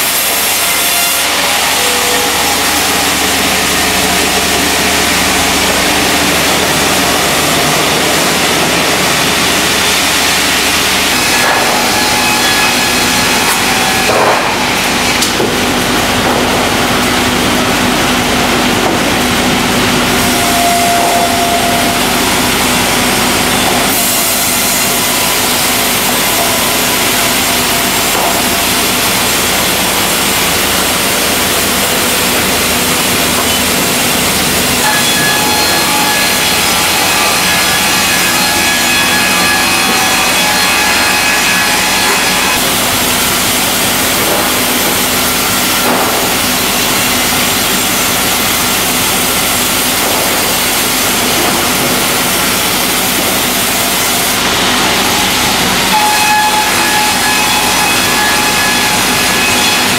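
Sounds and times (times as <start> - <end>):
sawmill machinery sawing: 0.0 - 59.9.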